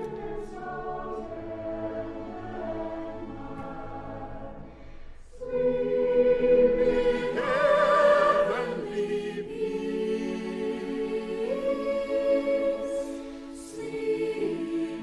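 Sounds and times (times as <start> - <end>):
group singing a slow carol: 0.0 - 15.0.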